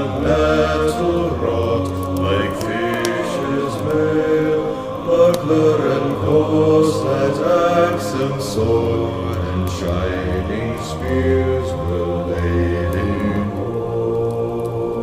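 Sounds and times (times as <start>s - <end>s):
low voices chanting: 0.0s - 15.0s
steady low drone: 0.0s - 15.0s.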